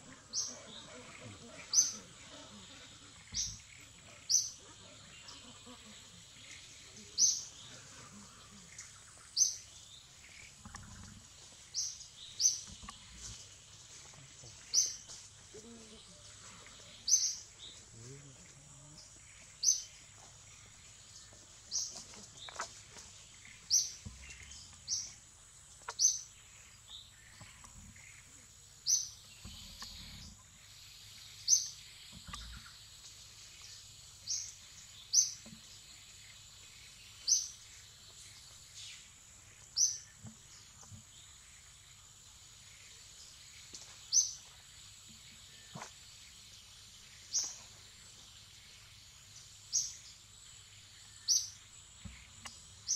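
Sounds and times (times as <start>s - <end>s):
bird chirping: 0.0s - 52.9s.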